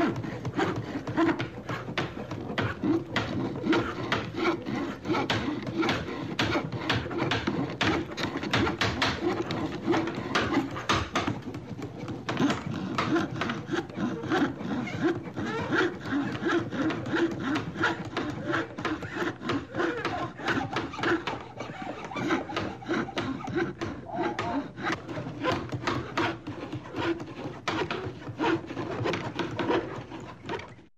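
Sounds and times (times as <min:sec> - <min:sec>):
hammer knocks: 0:00.0 - 0:30.7
hand saw strokes: 0:00.0 - 0:30.9.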